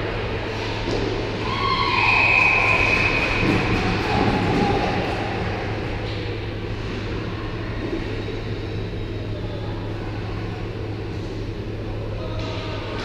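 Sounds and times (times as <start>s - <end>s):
constant low hum: 0.0s - 13.0s
general hubbub: 0.0s - 13.0s.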